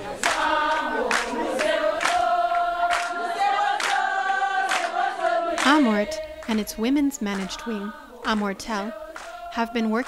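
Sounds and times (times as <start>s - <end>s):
choir holding long notes: 0.0s - 10.0s.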